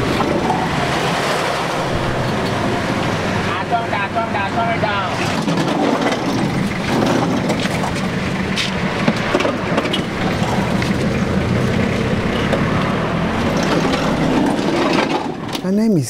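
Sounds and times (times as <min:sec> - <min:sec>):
minibus engine drone: 0:00.0 - 0:15.6
vehicle body rattling: 0:00.0 - 0:15.6.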